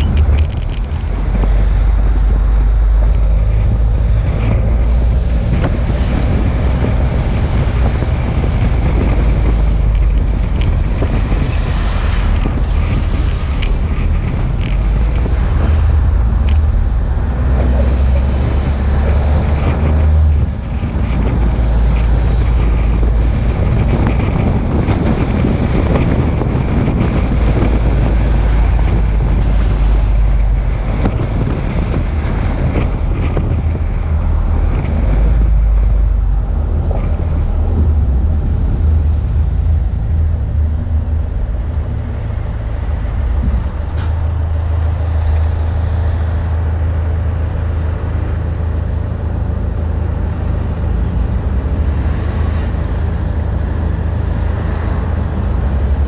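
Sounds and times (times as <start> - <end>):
steady low rumble: 0.0 - 56.0
wind buffeting microphone: 0.0 - 56.0.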